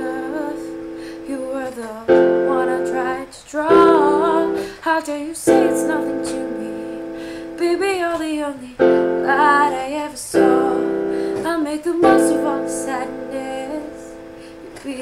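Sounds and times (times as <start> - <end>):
piano chords: 0.0 - 15.0
woman singing slow melody: 0.0 - 15.0.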